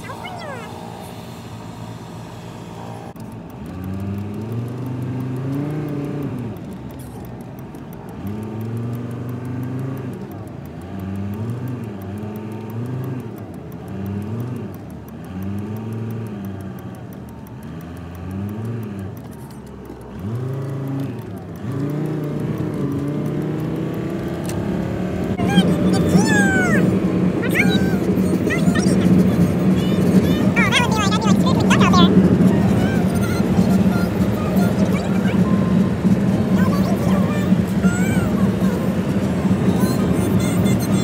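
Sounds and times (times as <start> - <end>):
road noise: 0.0 - 41.0
vehicle engine accelerating: 0.0 - 41.0.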